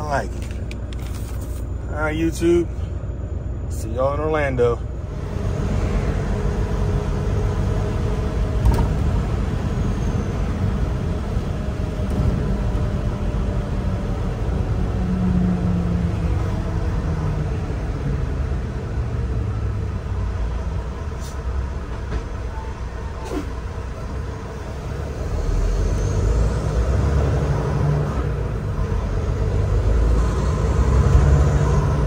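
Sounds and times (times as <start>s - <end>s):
truck engine and road noise: 0.0s - 32.0s.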